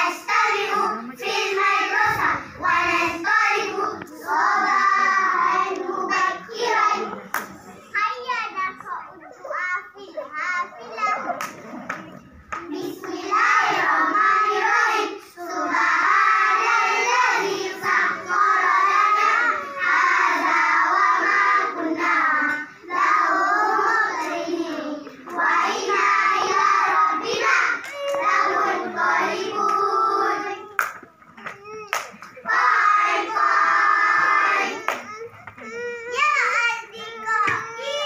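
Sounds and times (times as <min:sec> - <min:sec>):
children's chorus singing: 0:00.0 - 0:07.8, 0:10.6 - 0:31.4, 0:32.4 - 0:35.2, 0:37.0 - 0:38.0.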